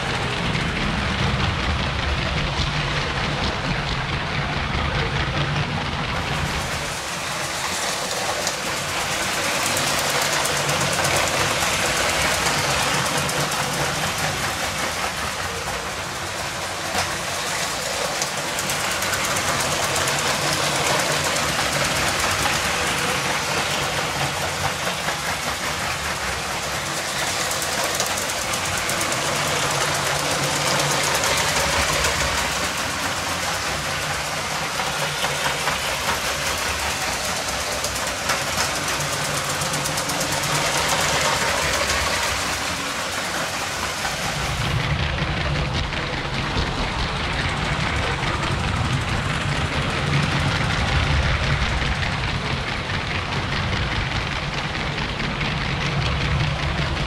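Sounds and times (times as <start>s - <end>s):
plastic wheels rattling on rails: 0.0s - 57.0s
toy train motors whirring: 4.8s - 57.0s.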